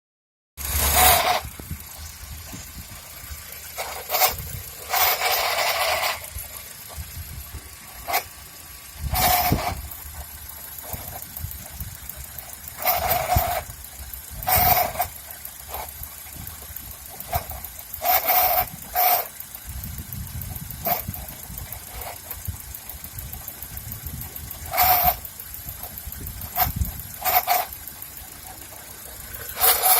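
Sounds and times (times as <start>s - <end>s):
car engine idling: 0.6s - 29.9s
gearbox whining: 0.6s - 29.9s.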